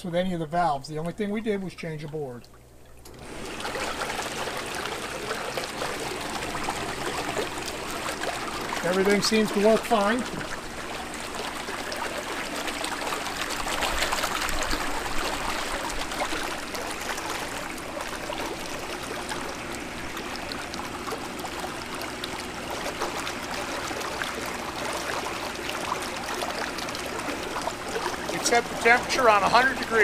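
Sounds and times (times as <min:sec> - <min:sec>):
hot tub jets rushing water: 0:00.1 - 0:30.0.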